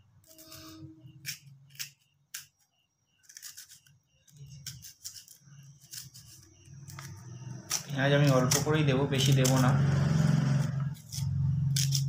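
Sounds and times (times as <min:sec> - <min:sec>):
knife cutting onion: 0:00.2 - 0:02.6, 0:03.2 - 0:12.0.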